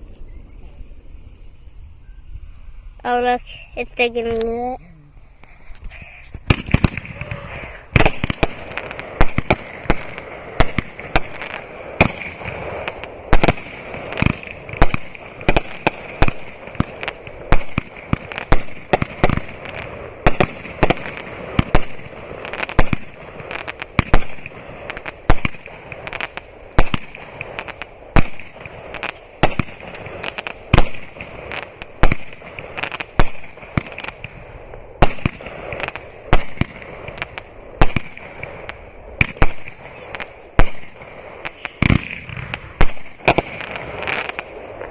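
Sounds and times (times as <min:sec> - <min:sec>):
fireworks bangs: 0:03.0 - 0:44.9.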